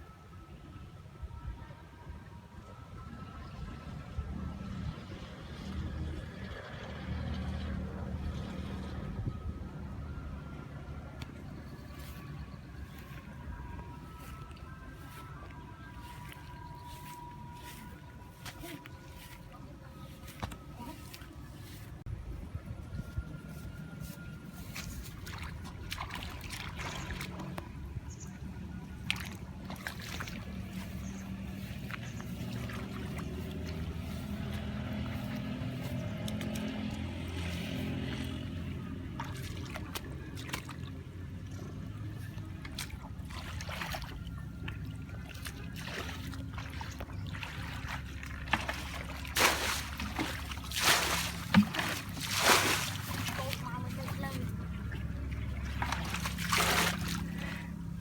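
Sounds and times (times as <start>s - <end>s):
low motor hum: 0.0s - 58.0s
shallow water sloshing and splashing: 10.1s - 22.1s, 23.0s - 58.0s.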